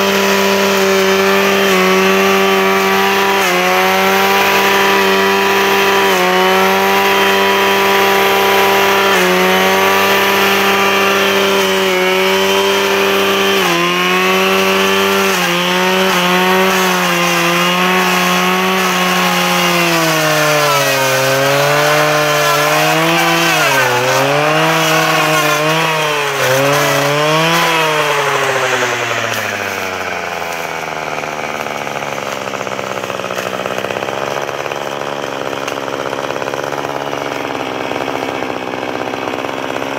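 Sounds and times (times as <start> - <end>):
brushcutter engine: 0.0 - 39.9.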